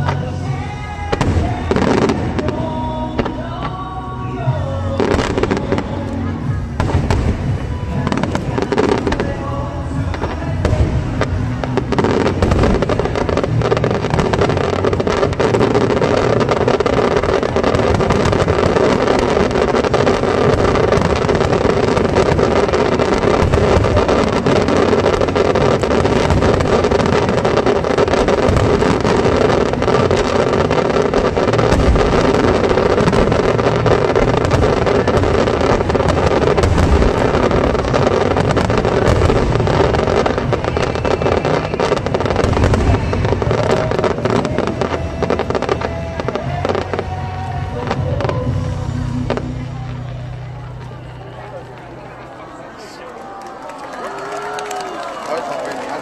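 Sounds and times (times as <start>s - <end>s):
fireworks bursts rumbling: 0.0s - 56.0s
fireworks crackling: 0.0s - 56.0s.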